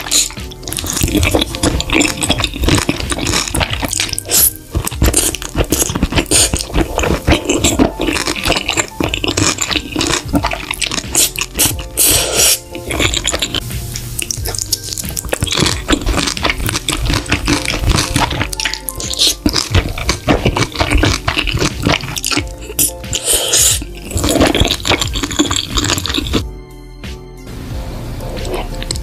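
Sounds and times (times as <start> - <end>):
wet chewing with mouth clicks: 0.0 - 26.4, 28.3 - 29.0.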